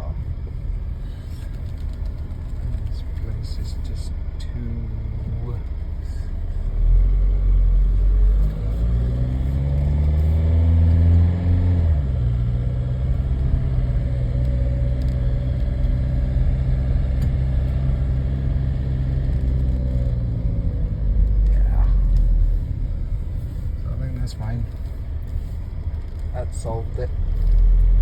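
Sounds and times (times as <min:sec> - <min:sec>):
diesel engine revving: 0:02.8 - 0:28.0.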